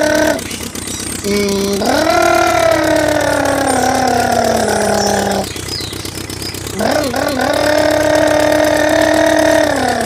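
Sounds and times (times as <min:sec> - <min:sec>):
person imitating engine with mouth: 0:00.0 - 0:05.6, 0:06.6 - 0:10.0.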